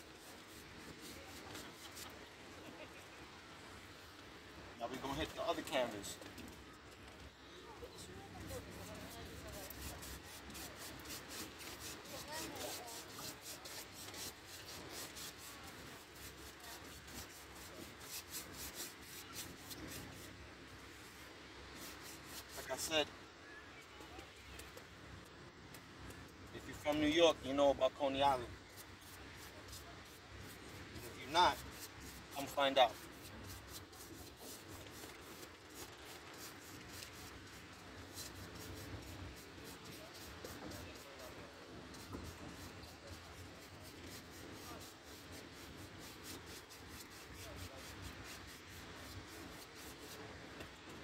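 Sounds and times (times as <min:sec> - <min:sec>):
paintbrush scrubbing on canvas: 0:00.0 - 0:02.6, 0:04.9 - 0:06.5, 0:08.0 - 0:20.4, 0:21.7 - 0:23.1, 0:26.6 - 0:51.0.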